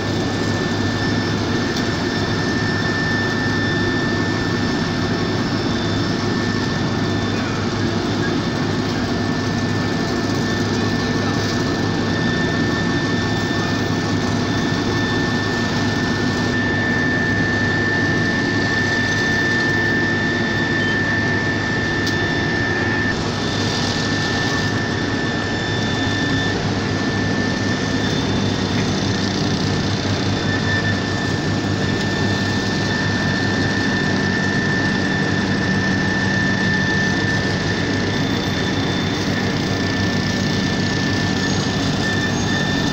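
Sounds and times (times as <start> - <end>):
diesel construction machinery running: 0.0 - 42.9
high whine: 0.0 - 42.9.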